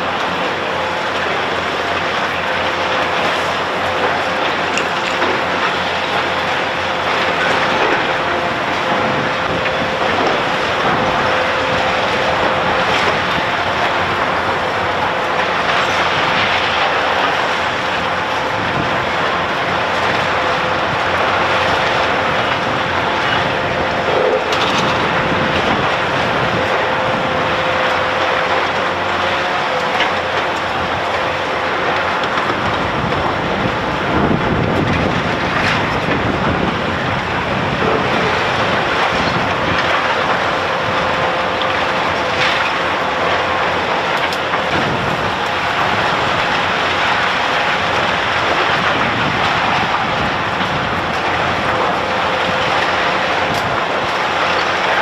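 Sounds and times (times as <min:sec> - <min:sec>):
heavy construction machinery: 0:00.0 - 0:55.0.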